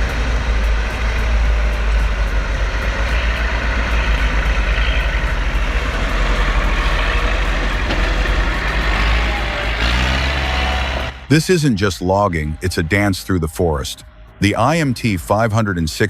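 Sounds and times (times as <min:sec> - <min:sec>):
heavy vehicle rumbling: 0:00.0 - 0:16.0.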